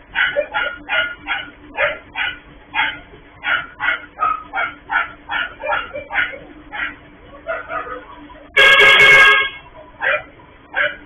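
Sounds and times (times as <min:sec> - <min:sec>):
dog barking: 0:00.1 - 0:08.2, 0:10.0 - 0:11.0.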